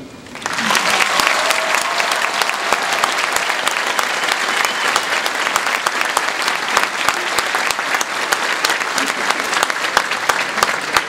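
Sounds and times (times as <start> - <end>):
large audience applauding: 0.3 - 11.0.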